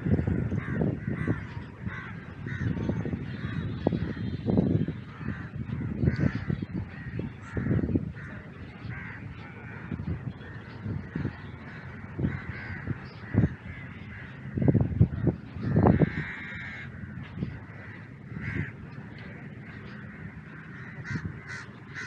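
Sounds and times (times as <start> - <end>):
birds harsh calls: 0.1 - 22.0.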